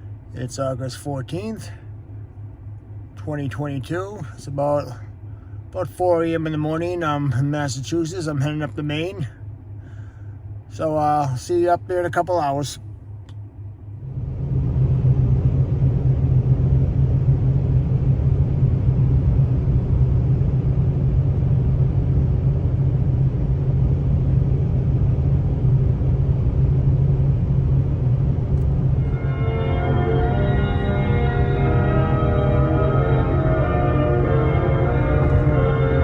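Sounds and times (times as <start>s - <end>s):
car engine rumble: 0.0s - 36.0s
road noise inside car: 0.0s - 36.0s.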